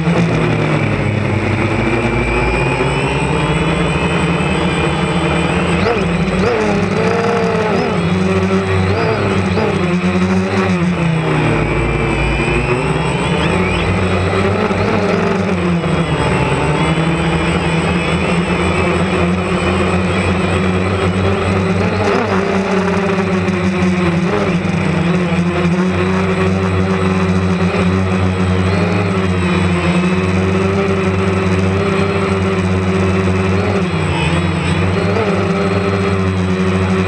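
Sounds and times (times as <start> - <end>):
drone propellers buzzing: 0.0 - 37.0.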